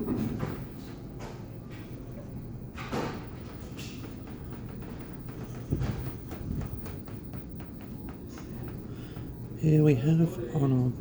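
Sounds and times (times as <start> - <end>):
ship interior low hum: 0.0 - 11.0.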